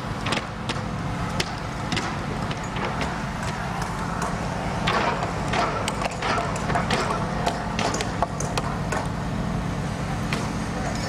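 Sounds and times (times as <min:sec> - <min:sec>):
heavy machinery engines droning: 0:00.0 - 0:11.0
wooden timbers knocking and clattering: 0:00.2 - 0:09.2.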